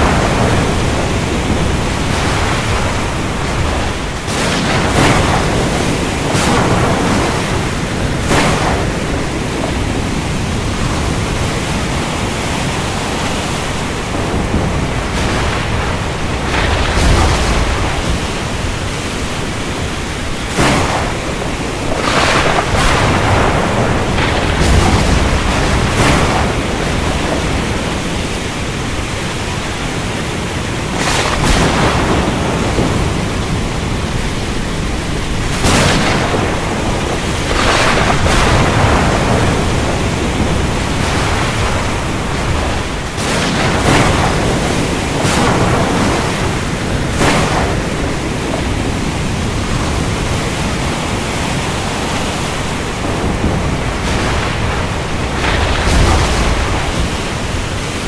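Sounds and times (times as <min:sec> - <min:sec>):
rain: 0:00.0 - 0:58.0
surf: 0:00.0 - 0:58.0
thunder cracks: 0:00.0 - 0:58.0
thunder rolling: 0:00.0 - 0:58.0.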